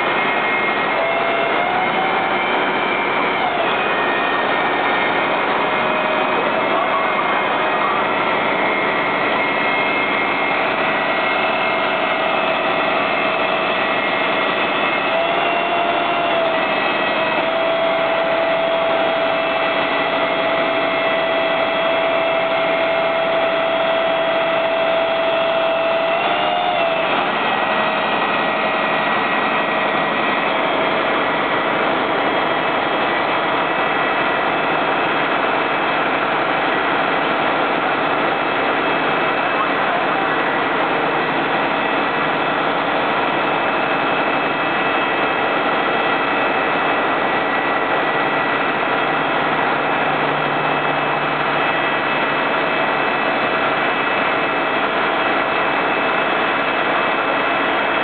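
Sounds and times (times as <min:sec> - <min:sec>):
fire engine pumps running: 0:00.0 - 0:58.0
mechanical whine: 0:00.0 - 0:58.0.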